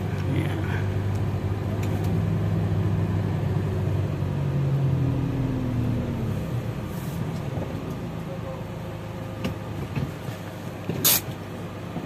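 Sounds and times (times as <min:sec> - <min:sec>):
van engine humming: 0:00.0 - 0:12.0.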